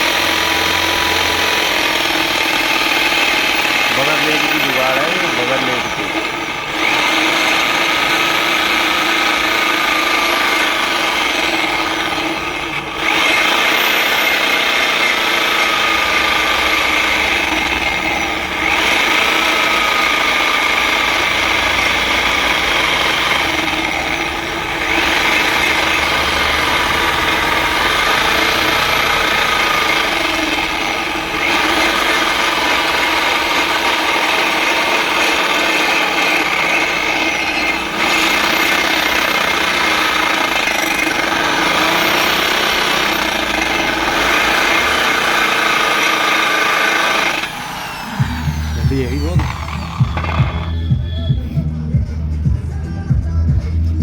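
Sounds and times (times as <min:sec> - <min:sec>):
grinding discs rubbing: 0:00.0 - 0:51.6
power tool motor whine: 0:00.0 - 0:51.6.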